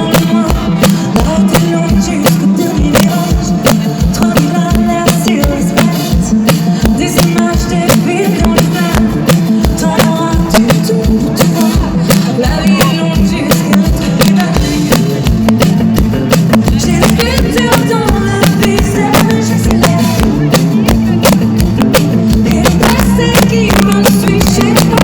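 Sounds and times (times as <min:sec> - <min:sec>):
person singing: 0:00.0 - 0:15.6, 0:16.6 - 0:25.0
drum beat: 0:00.0 - 0:25.0
live rock band playing: 0:00.0 - 0:25.0.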